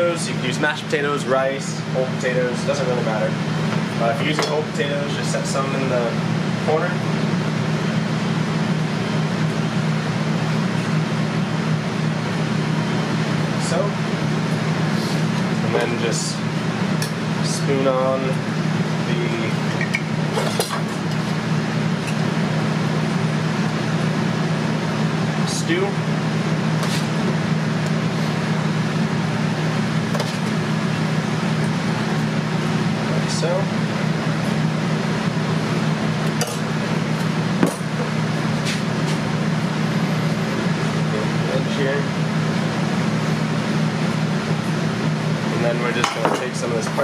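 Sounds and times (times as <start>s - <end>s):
ventilation fan humming: 0.0s - 47.0s.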